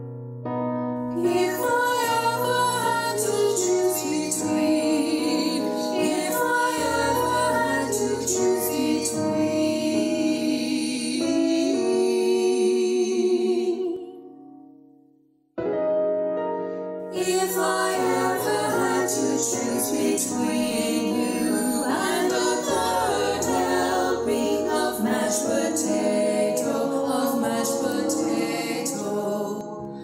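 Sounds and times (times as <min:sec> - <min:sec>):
choir singing: 0:01.1 - 0:14.2, 0:17.1 - 0:30.0.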